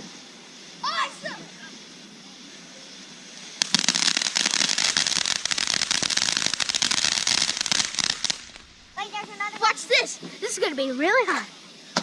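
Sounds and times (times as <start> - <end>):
firework crackling: 0.0 - 10.2.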